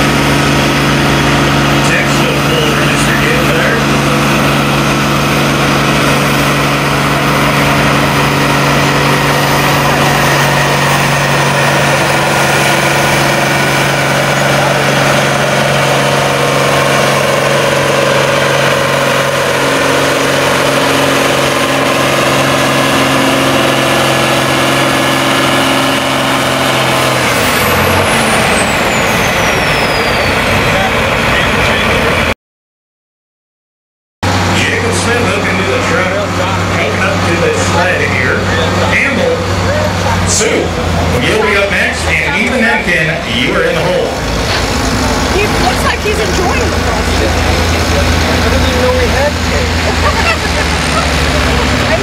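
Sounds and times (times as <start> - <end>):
diesel tractor engine under load: 0.0 - 32.3, 34.2 - 52.0.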